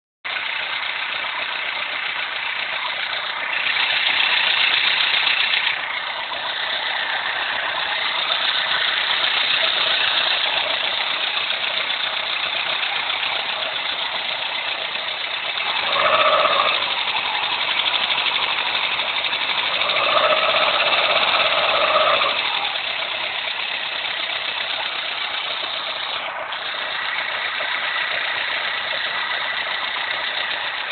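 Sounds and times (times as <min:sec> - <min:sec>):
car engine running: 0:00.2 - 0:30.9.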